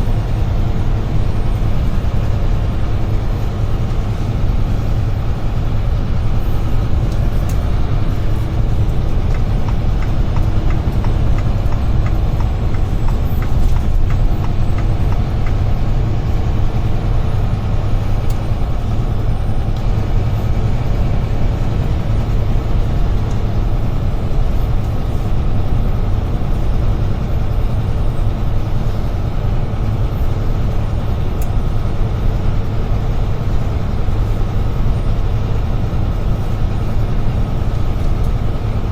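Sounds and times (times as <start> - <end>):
road noise: 0.0 - 38.9
truck diesel engine rumble: 0.0 - 38.9.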